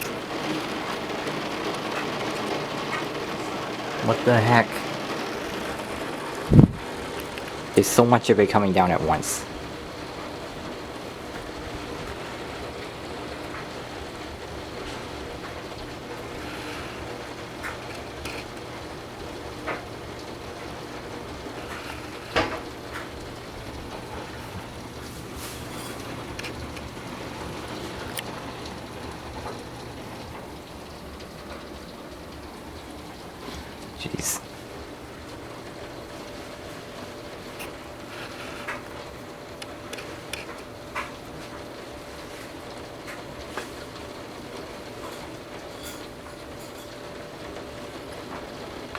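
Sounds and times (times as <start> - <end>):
torrential rain pouring: 0.0 - 48.9.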